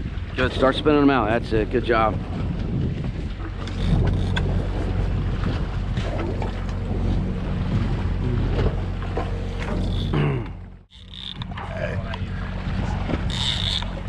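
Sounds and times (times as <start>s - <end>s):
wind on microphone: 0.0s - 10.2s, 10.8s - 14.0s
boat engine running: 0.0s - 14.0s
water washing around hull: 0.0s - 14.0s.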